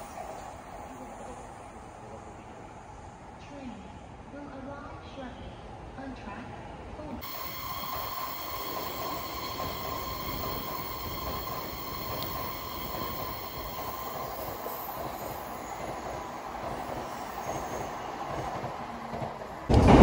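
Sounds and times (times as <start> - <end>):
bullet train passing at speed: 0.0 - 3.4, 7.2 - 20.0.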